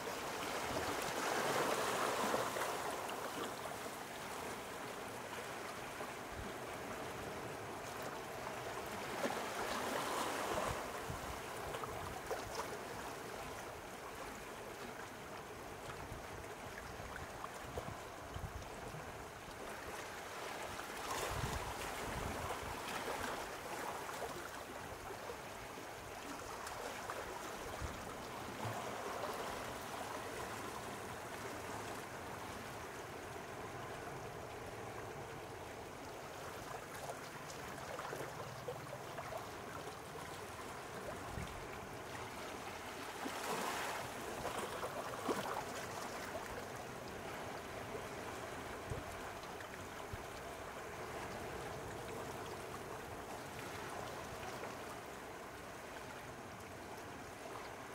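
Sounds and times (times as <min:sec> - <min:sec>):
sea waves lapping at shore: 0:00.0 - 0:57.9.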